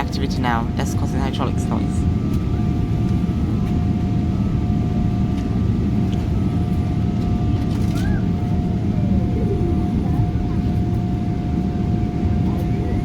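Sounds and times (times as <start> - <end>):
aircraft cabin low rumble: 0.0 - 13.0.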